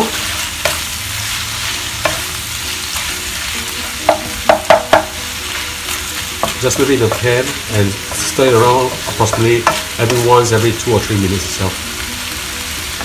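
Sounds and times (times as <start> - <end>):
wooden spatula scraping a pan: 0.0 - 11.1
pork fat sizzling in a wok: 0.0 - 13.0.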